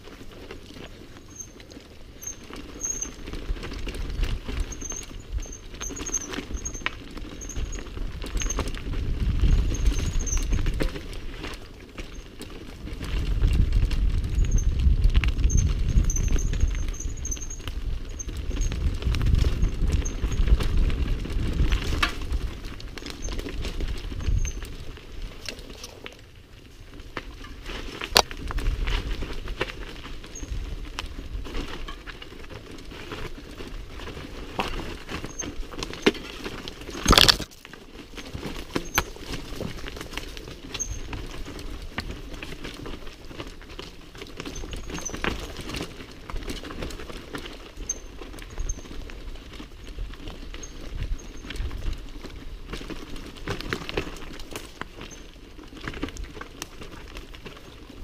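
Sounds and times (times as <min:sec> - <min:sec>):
bike knocking and rattling: 0:00.0 - 0:58.0
bike tyres crunching over stones: 0:00.0 - 0:58.0.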